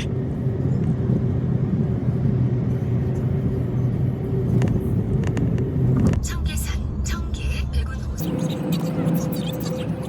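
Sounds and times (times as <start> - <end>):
car road and engine hum: 0.0 - 10.0.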